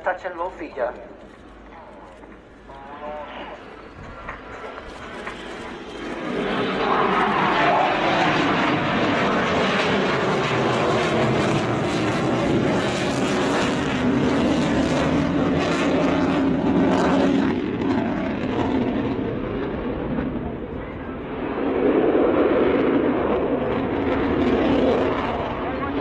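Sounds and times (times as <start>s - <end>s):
jet aircraft passing low: 0.0s - 26.0s.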